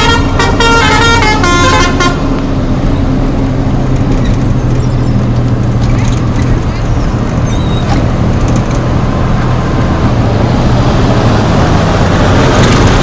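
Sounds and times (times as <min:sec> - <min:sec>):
bus engine running: 0:00.0 - 0:13.0
road noise: 0:00.0 - 0:13.0.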